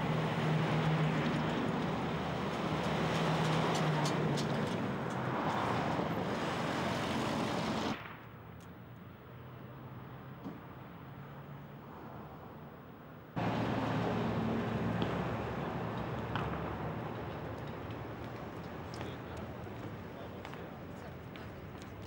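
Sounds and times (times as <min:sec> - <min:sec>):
buses driving past: 0:00.0 - 0:22.0
quiet outdoor background: 0:00.0 - 0:22.0.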